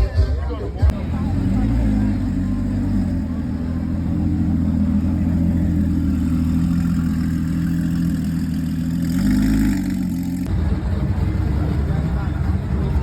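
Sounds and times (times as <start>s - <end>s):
car engine droning: 0.9s - 13.0s.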